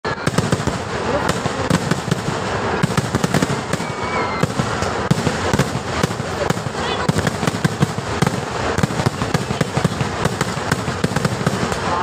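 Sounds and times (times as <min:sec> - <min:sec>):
fireworks cracking and banging: 0:00.0 - 0:12.0
fireworks whistling: 0:00.0 - 0:12.0.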